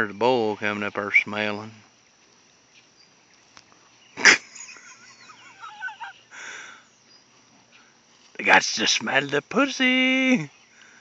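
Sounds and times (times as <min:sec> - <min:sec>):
faint warbling bird calls: 0:00.0 - 0:09.3.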